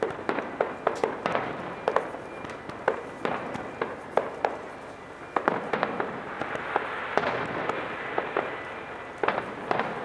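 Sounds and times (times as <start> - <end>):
continuous rumble: 0.0 - 10.0
fireworks bursting bangs: 0.0 - 10.0.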